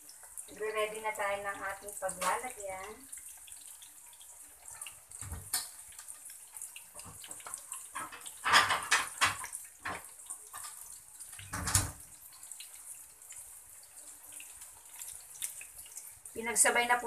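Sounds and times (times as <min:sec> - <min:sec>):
food deep-frying in hot oil: 0:00.0 - 0:17.0
oil crackling: 0:00.0 - 0:17.0.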